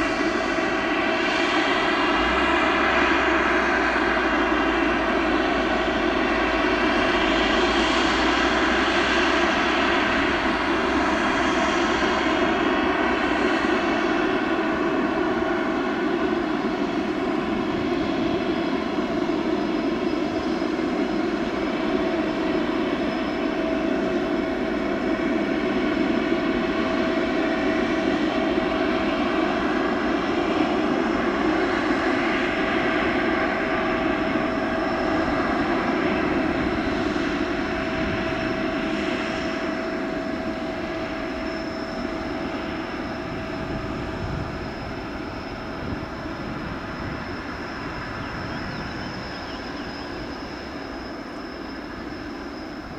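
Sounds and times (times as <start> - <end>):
jet engines whining: 0.0 - 52.9.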